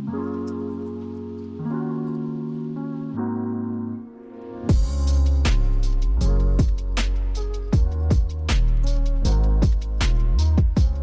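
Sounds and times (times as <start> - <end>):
sustained instrumental chords: 0.0 - 11.0.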